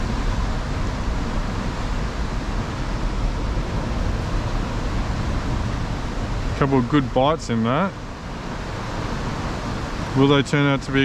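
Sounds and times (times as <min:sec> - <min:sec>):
heavy surf against rocks: 0:00.0 - 0:11.0
wind on microphone: 0:00.0 - 0:11.0.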